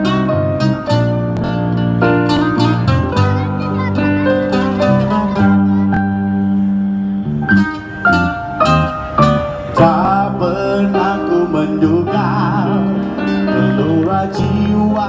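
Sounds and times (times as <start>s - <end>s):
acoustic guitar: 0.0s - 15.0s
bass guitar: 0.0s - 15.0s
keyboard: 0.0s - 15.0s.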